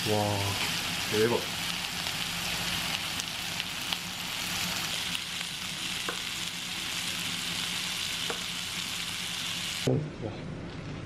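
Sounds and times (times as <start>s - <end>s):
meat sizzling on a hot plate: 0.0s - 9.9s.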